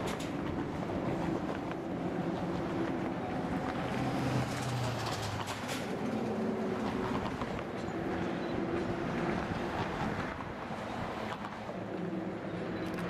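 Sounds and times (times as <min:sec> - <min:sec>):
train wheel clicks and clatter: 0:00.0 - 0:11.7
diesel locomotive running: 0:00.0 - 0:13.0.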